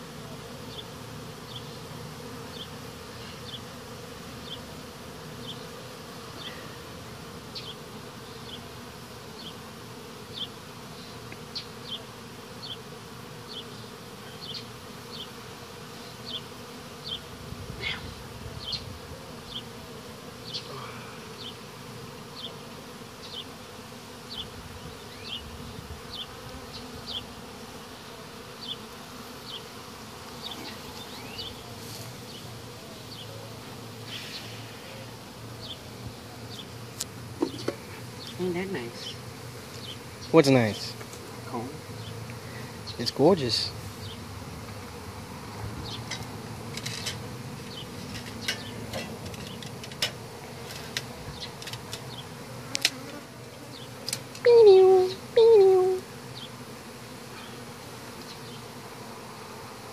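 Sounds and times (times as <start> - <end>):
bees buzzing: 0.0 - 59.9.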